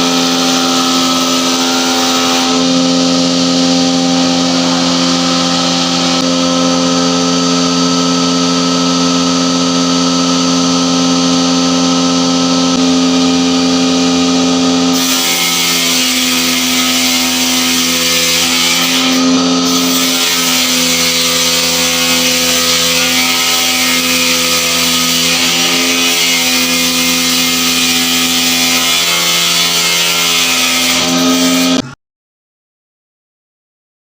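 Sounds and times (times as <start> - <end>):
woodworking machine humming: 0.0 - 32.0.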